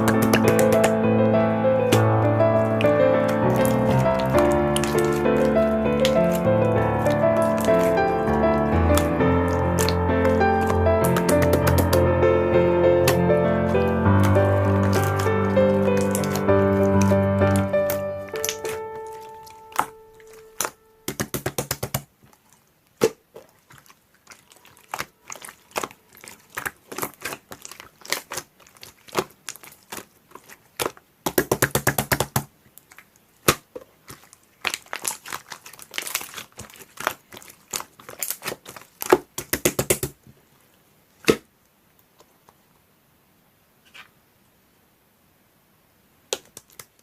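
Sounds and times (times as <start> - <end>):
slime crackling and popping: 0.0 - 40.3, 46.3 - 47.0.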